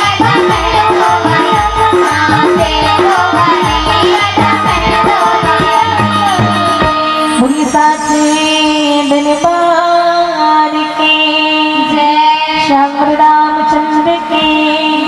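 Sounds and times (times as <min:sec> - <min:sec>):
tabla percussion: 0:00.0 - 0:15.0
woman singing: 0:00.0 - 0:15.0.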